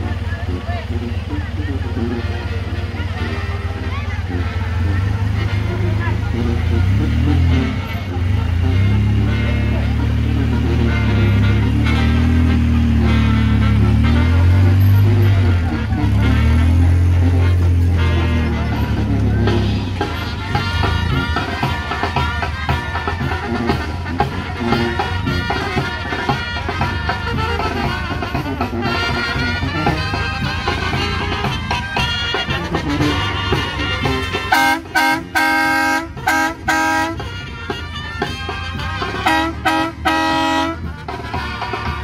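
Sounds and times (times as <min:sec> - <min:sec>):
brass band music: 0:00.0 - 0:42.0
vehicle horn honking: 0:00.0 - 0:42.0.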